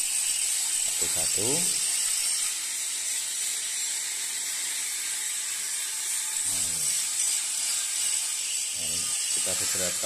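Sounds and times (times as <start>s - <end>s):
angle grinders grinding metal: 0.0s - 10.0s.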